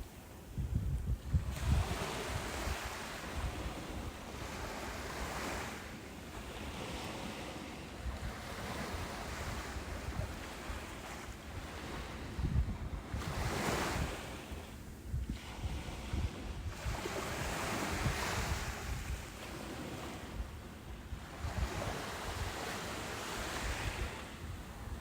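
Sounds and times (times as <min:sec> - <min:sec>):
wind buffeting microphone: 0:00.0 - 0:05.6, 0:08.0 - 0:25.0.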